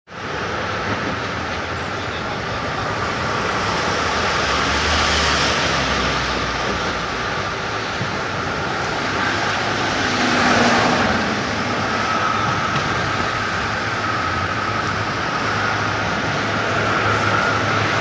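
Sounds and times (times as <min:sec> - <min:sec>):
passing vehicles engine and tyre noise: 0:00.1 - 0:18.0.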